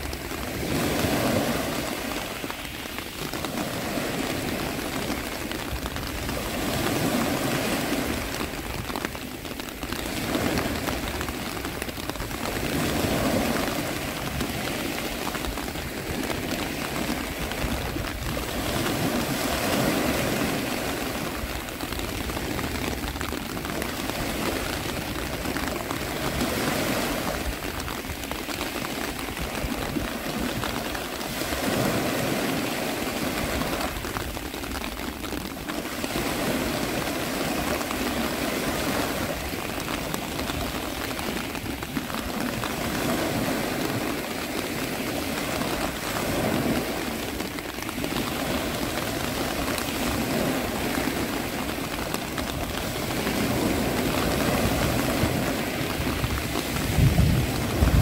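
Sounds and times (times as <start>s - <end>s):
rain: 0.0s - 58.0s
sea surf: 0.0s - 58.0s.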